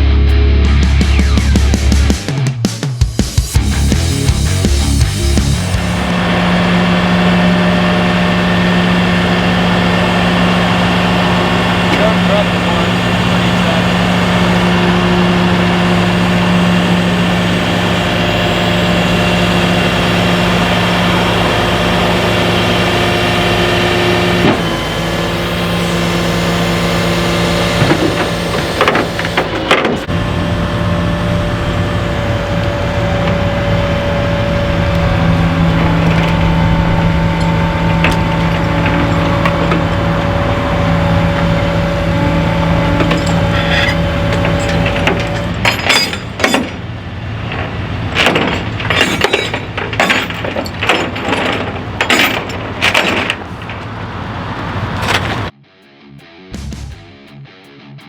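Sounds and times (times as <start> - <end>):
vehicle engine humming: 0.0 - 2.4, 3.1 - 55.6.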